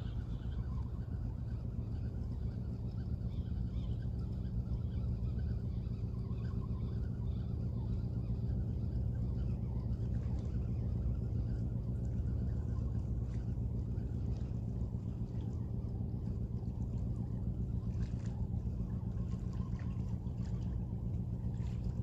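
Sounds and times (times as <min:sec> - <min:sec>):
low engine rumble: 0:00.0 - 0:22.0.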